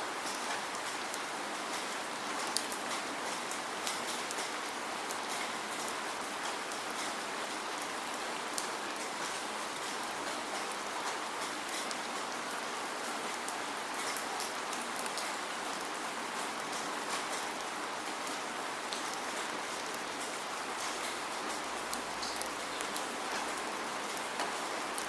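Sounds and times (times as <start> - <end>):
raindrops ticking on a surface: 0.1 - 25.0.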